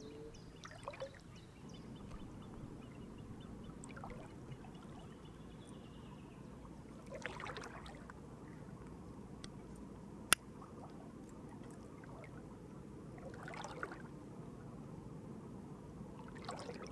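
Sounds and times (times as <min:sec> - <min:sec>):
low steady trickling wash: 0:00.0 - 0:16.9.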